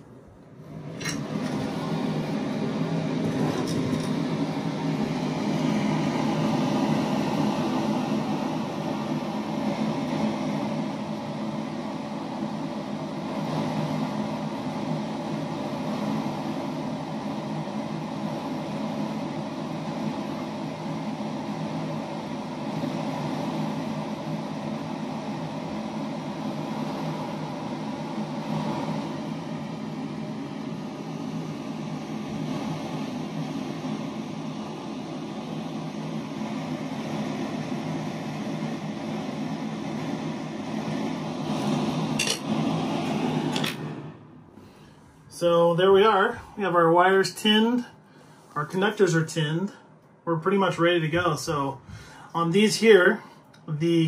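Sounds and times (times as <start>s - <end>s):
electric fan humming: 0.0s - 54.0s.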